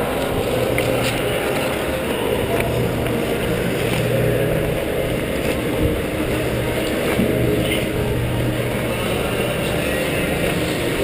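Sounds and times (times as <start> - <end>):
ice skates gliding on ice: 0.0 - 11.0.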